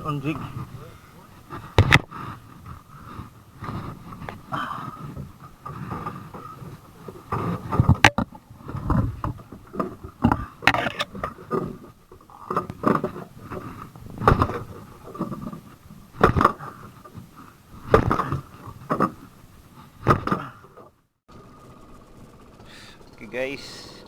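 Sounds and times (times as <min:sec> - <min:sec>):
knocks and scrapes on boat: 0:00.0 - 0:21.0
faint steady hum: 0:00.0 - 0:24.0.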